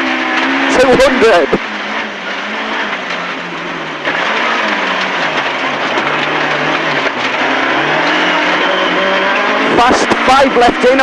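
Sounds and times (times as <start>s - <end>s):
car engine running hard: 0.0s - 11.0s
road and tyre noise: 0.0s - 11.0s.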